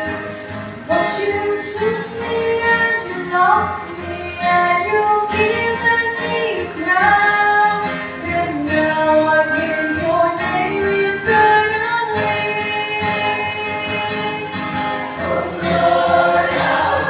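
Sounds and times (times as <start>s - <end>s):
music: 0.0s - 17.0s
woman singing into a microphone: 0.0s - 17.0s.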